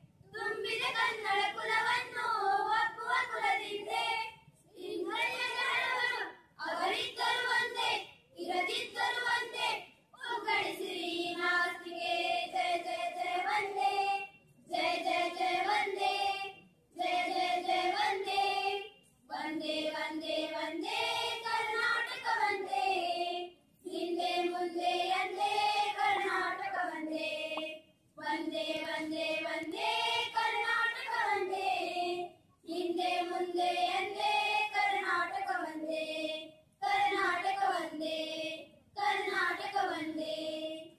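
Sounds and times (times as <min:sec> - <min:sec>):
girls singing in unison: 0:00.0 - 0:40.9.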